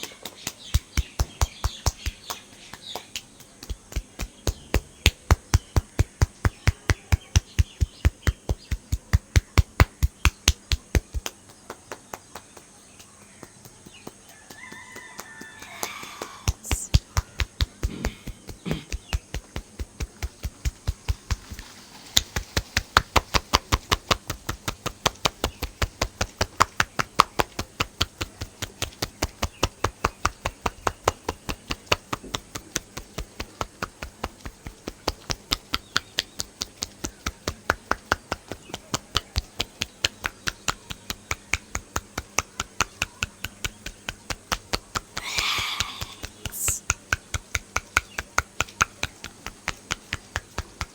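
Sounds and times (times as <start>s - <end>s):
hands slapping in massage: 0.0s - 50.9s.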